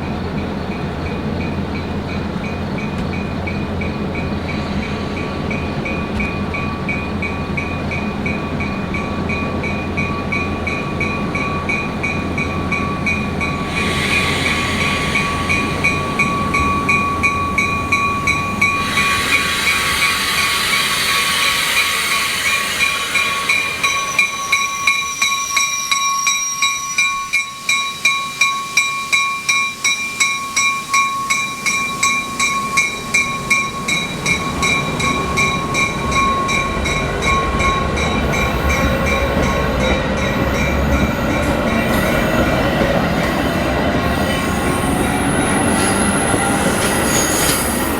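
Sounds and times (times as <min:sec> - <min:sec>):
train wheels clicking over rail joints: 0:00.0 - 0:47.9.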